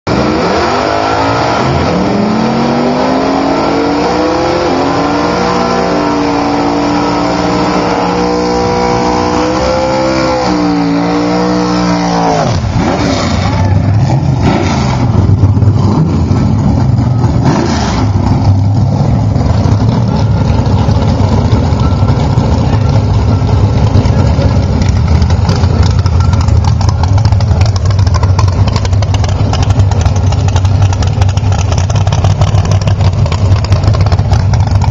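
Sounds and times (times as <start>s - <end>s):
rough engine noise: 0.1s - 34.9s
truck engine revving: 0.1s - 34.9s.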